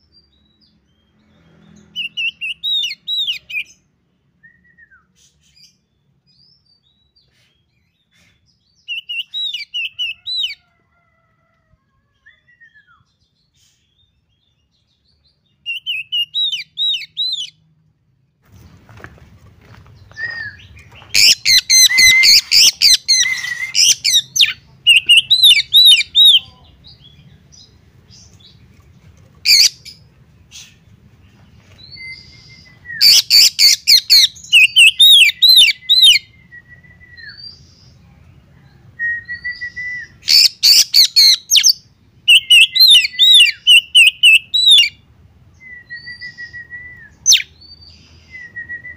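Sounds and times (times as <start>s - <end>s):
songbird singing: 0.0s - 11.3s, 12.0s - 48.9s.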